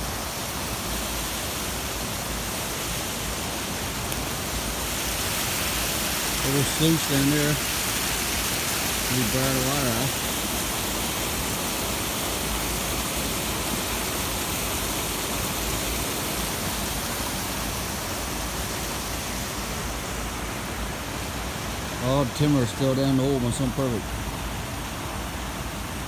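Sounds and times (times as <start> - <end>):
water rushing through sluice: 0.0 - 26.0.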